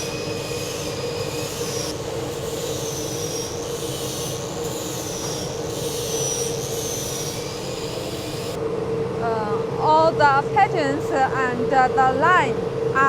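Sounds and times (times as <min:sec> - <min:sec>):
high wavering whine: 0:00.0 - 0:13.0
workshop machinery hum: 0:00.0 - 0:13.0.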